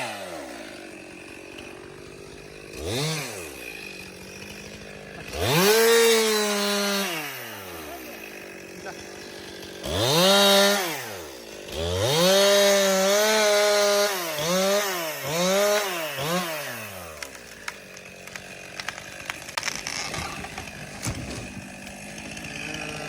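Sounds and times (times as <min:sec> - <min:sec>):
chainsaw revving: 0:00.0 - 0:23.0.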